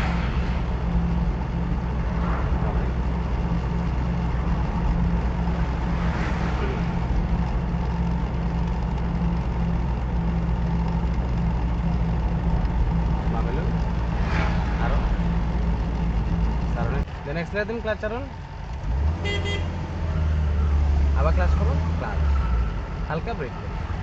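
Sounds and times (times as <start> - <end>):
car engine running low revs: 0.0 - 24.0.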